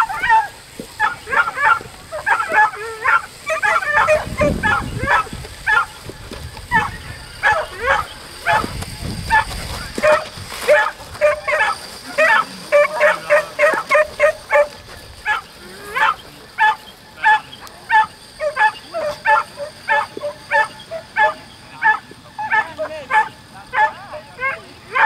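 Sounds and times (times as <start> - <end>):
dog barking in high yaps: 0.0 - 5.9, 6.7 - 8.7, 9.3 - 25.0.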